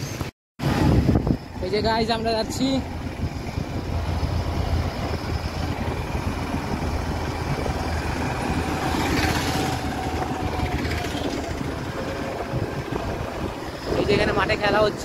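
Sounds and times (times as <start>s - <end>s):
road noise: 0.0s - 15.0s
wind noise: 0.0s - 15.0s.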